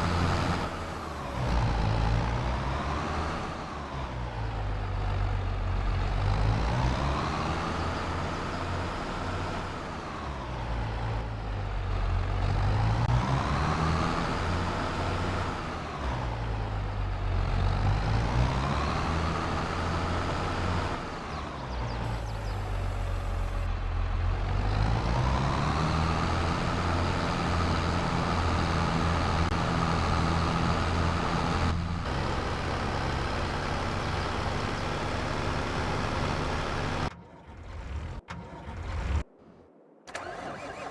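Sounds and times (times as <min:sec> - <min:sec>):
tractor engine running: 0:00.0 - 0:39.2, 0:40.1 - 0:40.9.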